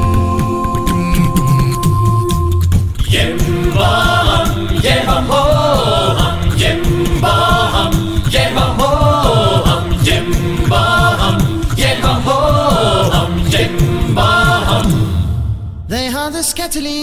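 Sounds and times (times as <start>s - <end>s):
song with vocals and percussion: 0.0s - 17.0s.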